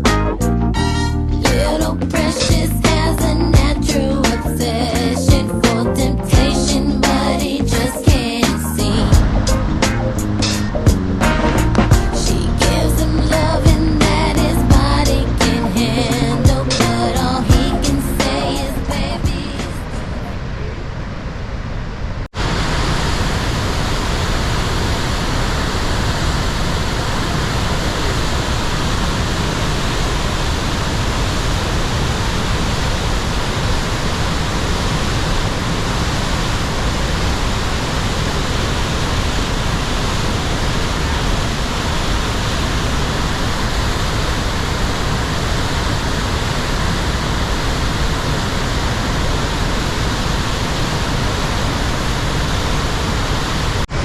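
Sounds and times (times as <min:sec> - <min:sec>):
waterfall roaring: 0:07.4 - 0:54.0.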